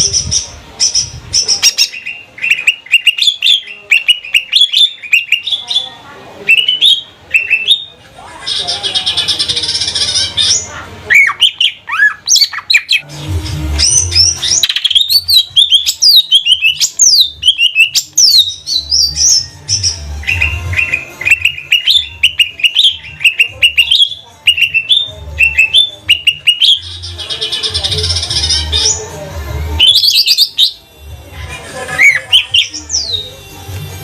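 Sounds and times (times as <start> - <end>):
bird singing: 0.0 - 13.1, 13.7 - 29.2, 29.8 - 30.9, 31.9 - 33.5.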